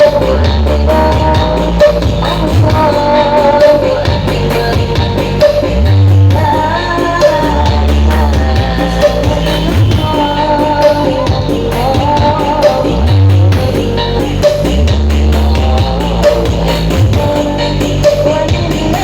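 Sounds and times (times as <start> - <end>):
dance music with heavy bass: 0.0 - 19.0.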